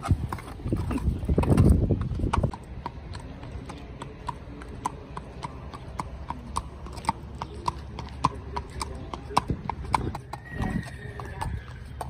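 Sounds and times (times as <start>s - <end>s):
hooves clopping on pavement: 0.0s - 12.0s.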